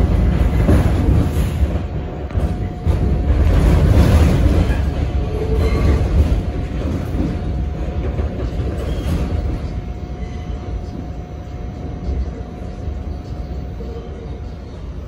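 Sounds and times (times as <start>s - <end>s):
subway car rumbling in tunnel: 0.0s - 15.0s.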